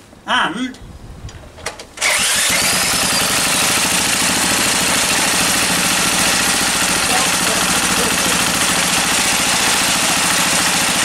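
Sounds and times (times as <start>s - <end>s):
electric drill: 2.0s - 11.0s
small engine running: 2.0s - 11.0s.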